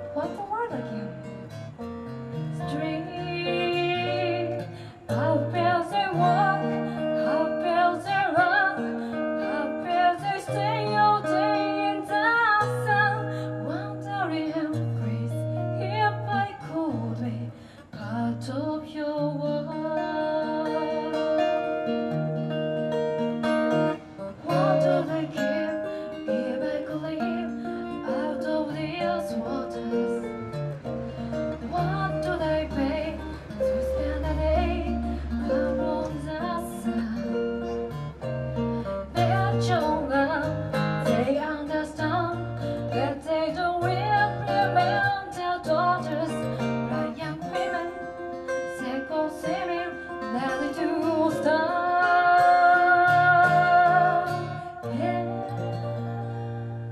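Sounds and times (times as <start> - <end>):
woman singing into a microphone: 0.0 - 38.2, 38.8 - 56.9
acoustic guitar: 0.0 - 56.9.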